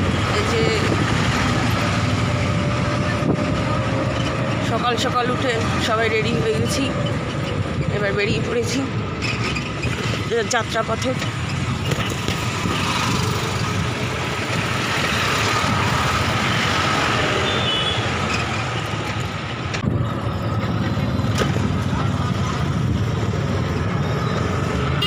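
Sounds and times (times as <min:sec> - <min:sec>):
rickshaw road noise: 0:00.0 - 0:25.0.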